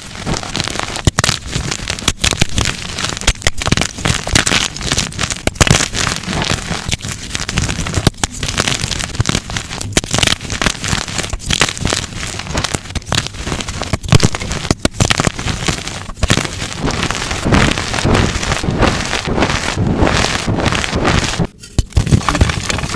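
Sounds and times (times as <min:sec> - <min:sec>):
chalk crunching in hands: 0:00.0 - 0:22.9.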